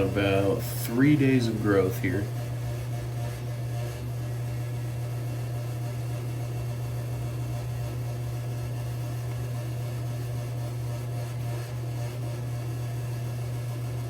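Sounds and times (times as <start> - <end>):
low hum with hiss: 0.0 - 11.8.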